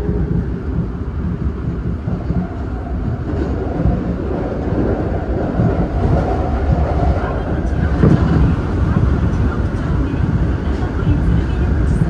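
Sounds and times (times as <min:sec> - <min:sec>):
subway train rumbling in tunnel: 0:00.0 - 0:12.0.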